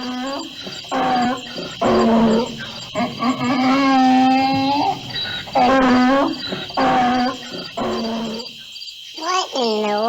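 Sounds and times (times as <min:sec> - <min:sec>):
drawn-out animal calls: 0:00.0 - 0:08.6
crickets chirping: 0:00.0 - 0:10.0.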